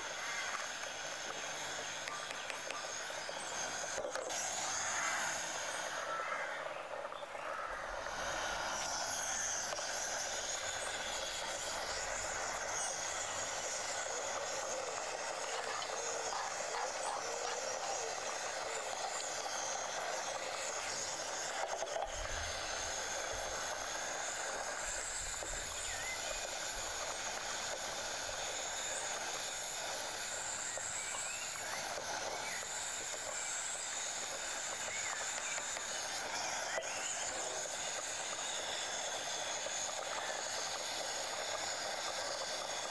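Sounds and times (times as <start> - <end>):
gas burner hissing: 0.0 - 42.9.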